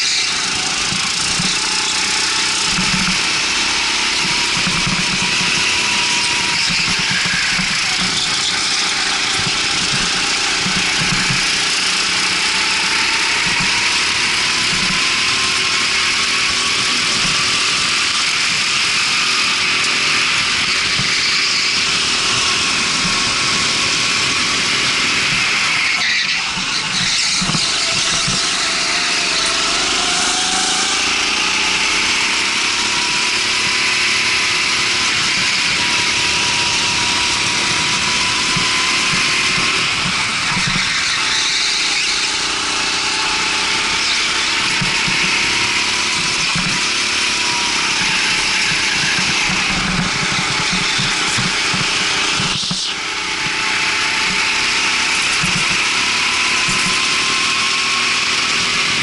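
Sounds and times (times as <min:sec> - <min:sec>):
go-kart engine running at speed: 0:00.0 - 0:59.0.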